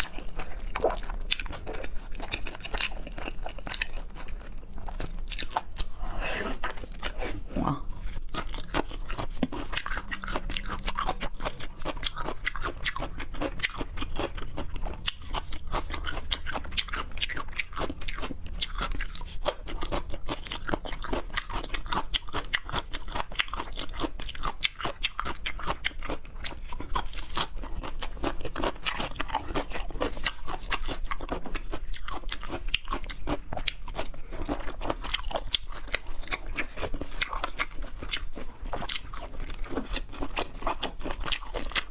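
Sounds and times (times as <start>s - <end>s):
crunchy wet chewing: 0.0s - 41.9s.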